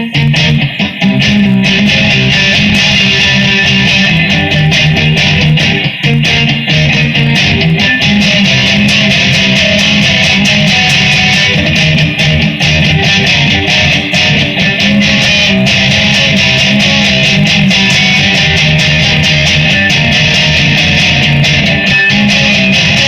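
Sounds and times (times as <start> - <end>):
electric guitar strumming chords: 0.0 - 23.0.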